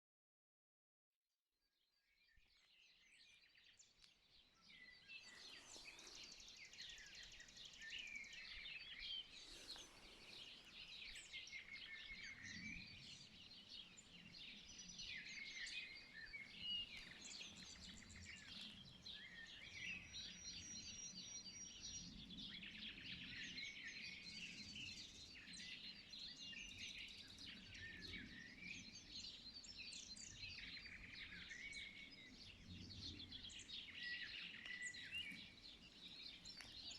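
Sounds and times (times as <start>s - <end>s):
small birds chirping and singing: 1.9s - 36.9s.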